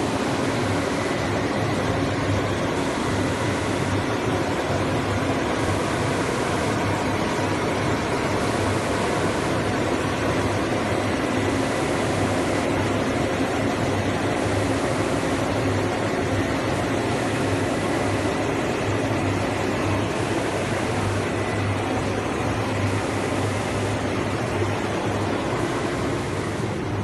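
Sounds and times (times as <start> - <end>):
printing press running: 0.0 - 27.0.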